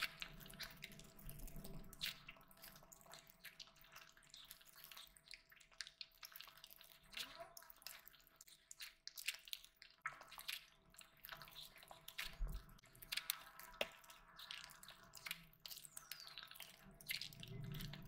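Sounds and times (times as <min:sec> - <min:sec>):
fingers mashing rice: 0:00.0 - 0:18.0
mouth chewing: 0:00.0 - 0:18.0.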